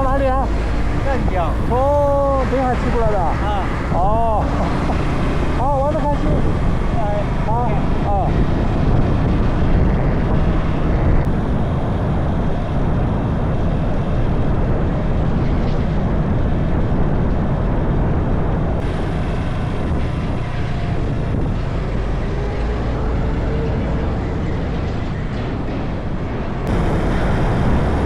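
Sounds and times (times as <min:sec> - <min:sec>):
wind noise on microphone: 0:00.0 - 0:28.0.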